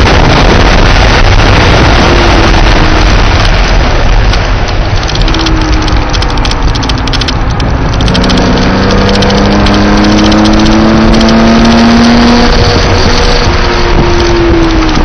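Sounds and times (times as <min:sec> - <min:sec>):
car engine accelerating: 0:00.0 - 0:15.0
loud rushing noise: 0:00.0 - 0:15.0.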